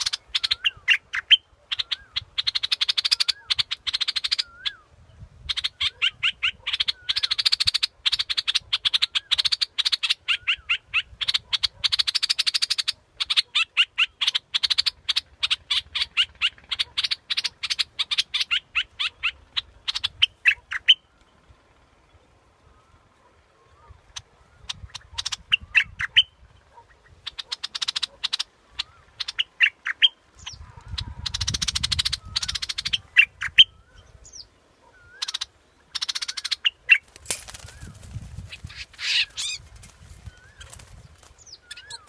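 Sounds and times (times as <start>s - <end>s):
bulbul calls: 0.0s - 21.4s, 22.6s - 42.0s.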